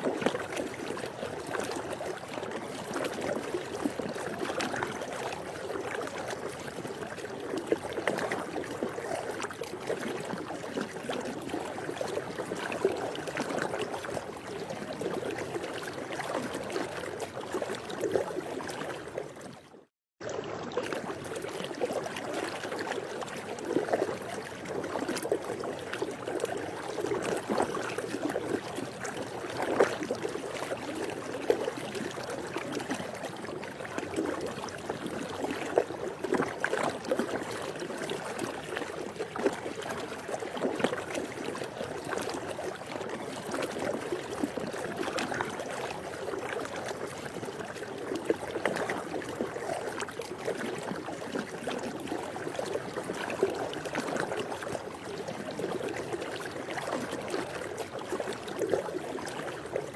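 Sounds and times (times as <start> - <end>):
pool water lapping and splashing: 0.0 - 59.9.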